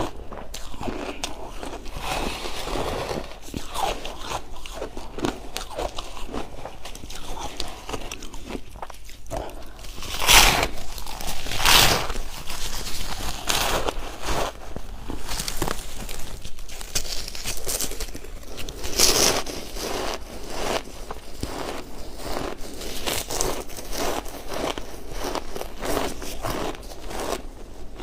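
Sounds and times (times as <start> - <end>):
chewing crunchy ice: 0.0 - 28.0.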